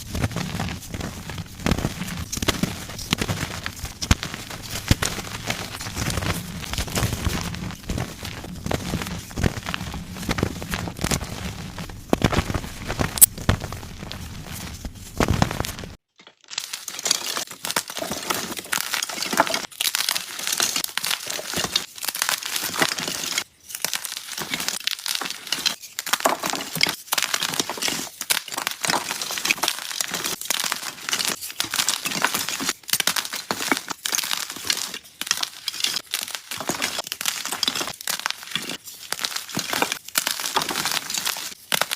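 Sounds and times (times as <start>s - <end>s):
chalk crunching and crumbling: 0.0s - 41.9s.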